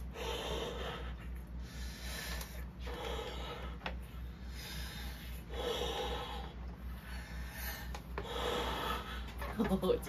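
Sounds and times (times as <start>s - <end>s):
woman breathing in: 0.0s - 9.4s.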